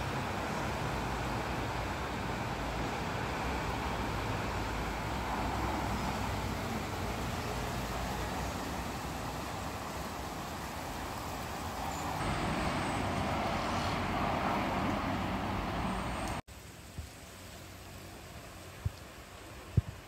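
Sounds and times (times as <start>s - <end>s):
road traffic noise: 0.0s - 16.5s.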